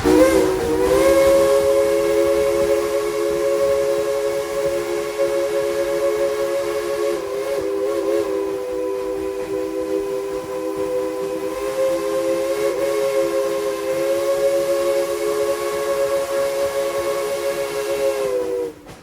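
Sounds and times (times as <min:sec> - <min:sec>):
steam locomotive whistle: 0:00.0 - 0:19.0.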